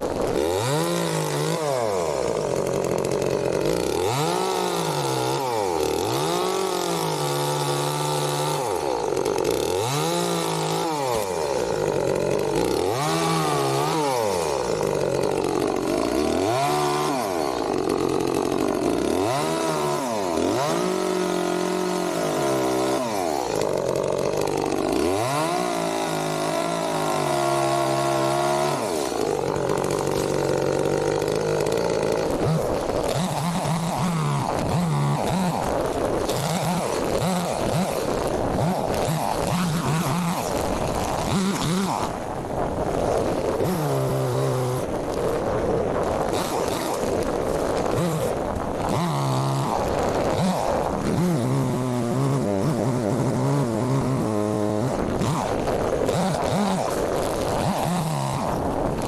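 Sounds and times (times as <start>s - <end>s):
small gas engine revving: 0.0s - 59.0s.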